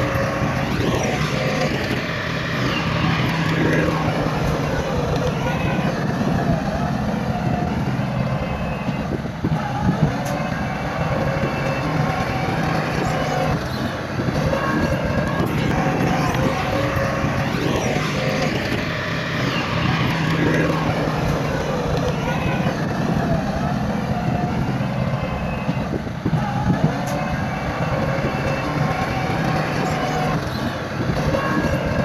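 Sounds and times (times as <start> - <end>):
heavy machinery diesel engines: 0.0 - 32.0.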